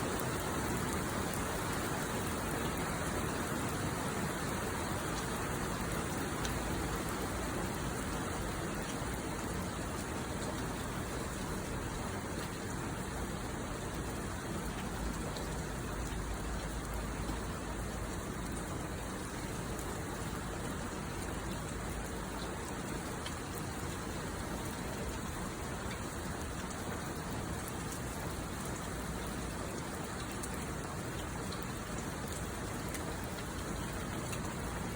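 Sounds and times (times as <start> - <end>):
raindrops ticking: 0.1 - 34.9.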